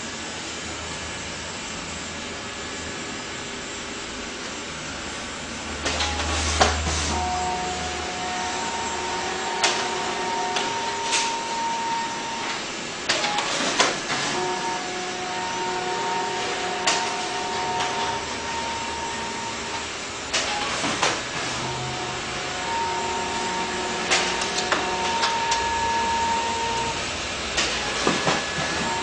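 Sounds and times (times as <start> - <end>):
printer fans and motors whirring: 0.0 - 29.0.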